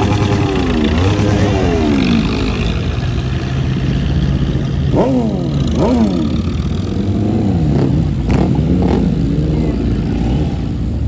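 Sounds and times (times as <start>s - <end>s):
engine throttle blips: 0.0s - 10.8s.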